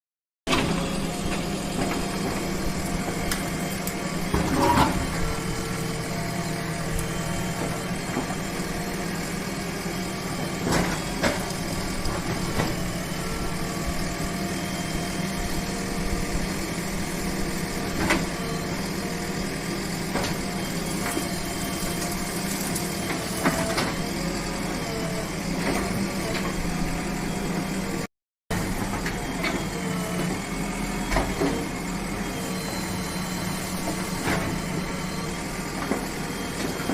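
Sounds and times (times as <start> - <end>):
excavator diesel engine running: 0.5 - 36.9.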